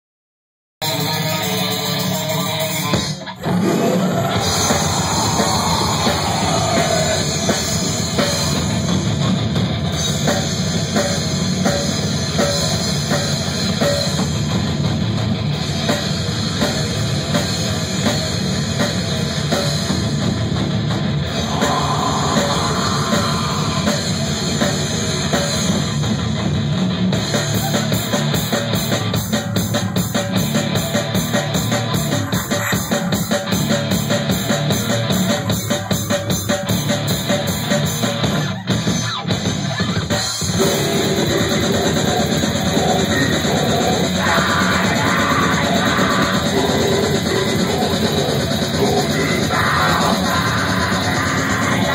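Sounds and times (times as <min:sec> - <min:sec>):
heavy metal band playing: 0:00.8 - 0:51.9
fast drum beat: 0:01.5 - 0:51.9.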